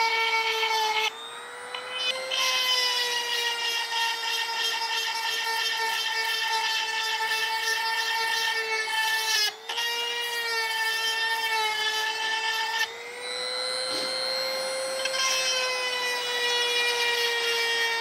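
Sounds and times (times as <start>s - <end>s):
grinder motor whine: 0.0s - 18.0s.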